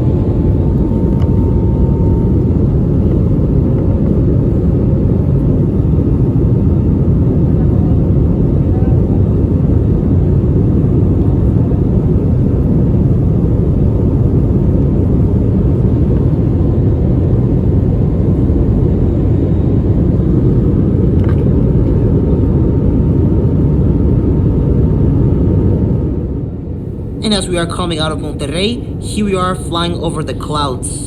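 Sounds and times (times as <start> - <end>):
aircraft engines rumbling: 0.0 - 31.0.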